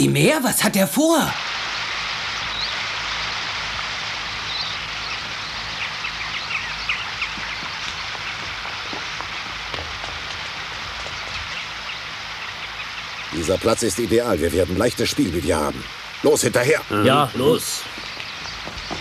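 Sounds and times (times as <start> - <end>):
river water flowing: 1.2 - 19.0
birds chirping: 1.6 - 19.0.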